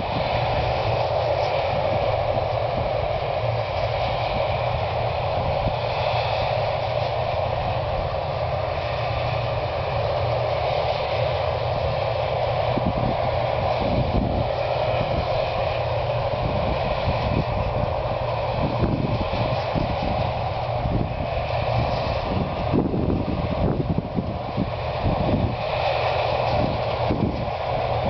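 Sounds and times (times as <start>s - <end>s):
combine harvester droning: 0.0s - 28.0s.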